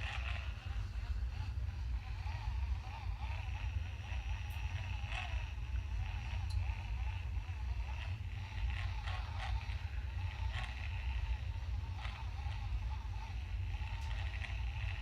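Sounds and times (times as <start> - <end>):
facial brush motor humming: 0.0 - 15.0.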